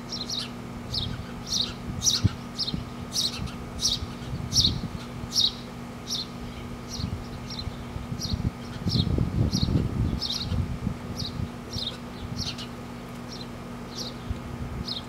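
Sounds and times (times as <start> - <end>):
baby birds chirping: 0.1 - 10.6, 11.2 - 15.0.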